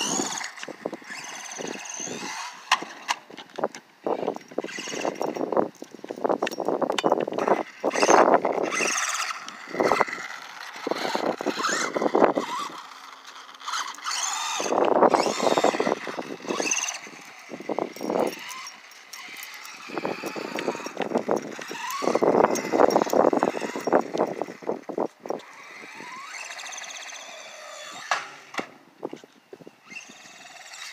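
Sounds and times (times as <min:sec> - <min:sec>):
electric motor whining: 0:00.0 - 0:03.2, 0:04.1 - 0:05.7, 0:07.2 - 0:30.9.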